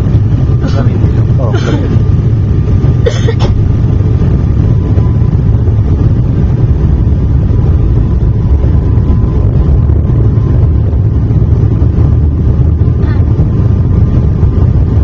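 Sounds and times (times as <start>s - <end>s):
airliner engine drone: 0.0s - 15.0s
faint steady whine: 0.0s - 15.0s.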